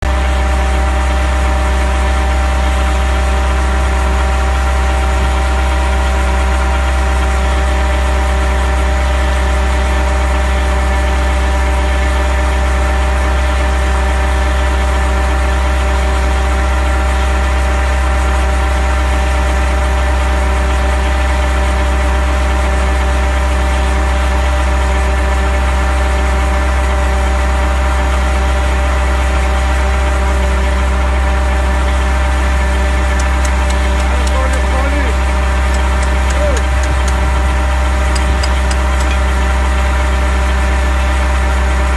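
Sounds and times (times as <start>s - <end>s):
drilling rig engine humming: 0.0s - 41.9s.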